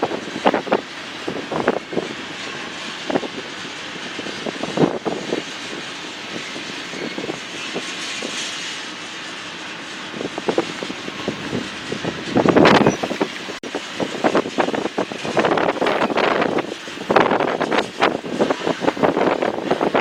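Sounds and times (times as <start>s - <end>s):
train clacks: 0.0s - 20.0s
train rumbling past: 0.0s - 20.0s.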